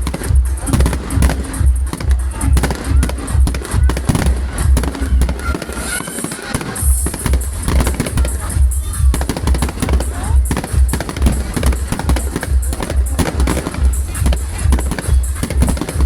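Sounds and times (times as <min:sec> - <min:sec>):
fireworks crackling and banging: 0:00.0 - 0:16.0
music with bass beat: 0:00.0 - 0:16.0.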